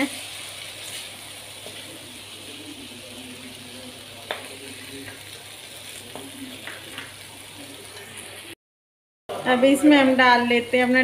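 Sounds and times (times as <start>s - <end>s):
food sizzling in a pan: 0.0s - 8.6s, 9.3s - 11.0s.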